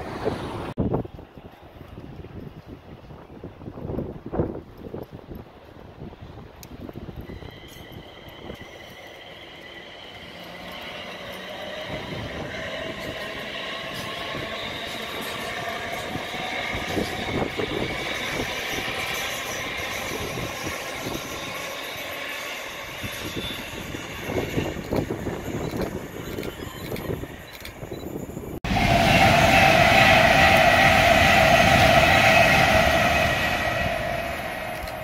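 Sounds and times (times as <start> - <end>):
train steady whine: 0.0 - 35.0
train wheels rushing on rail: 0.0 - 35.0.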